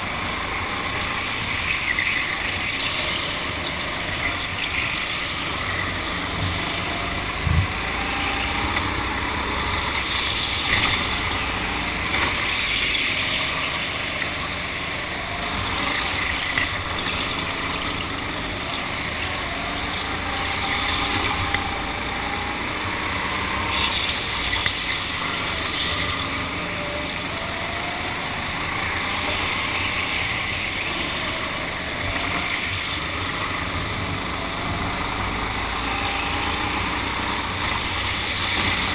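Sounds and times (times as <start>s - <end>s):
go-kart motor running: 0.0s - 38.9s.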